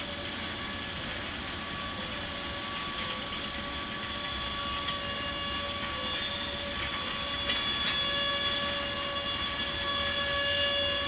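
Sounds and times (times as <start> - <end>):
freight train wheels rumbling: 0.0 - 11.0
high-pitched whine: 0.0 - 11.0.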